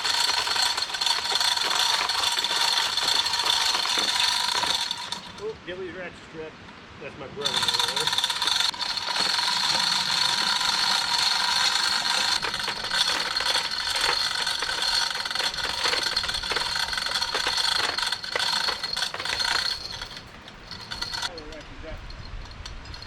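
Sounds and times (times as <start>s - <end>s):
ratchet strap clicking and rattling: 0.0s - 5.5s, 7.4s - 23.0s.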